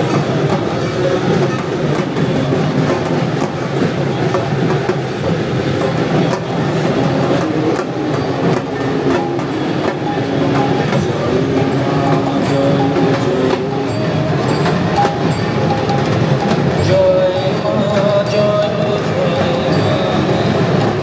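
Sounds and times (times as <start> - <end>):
festival procession street din: 0.0 - 21.0
music: 0.0 - 21.0.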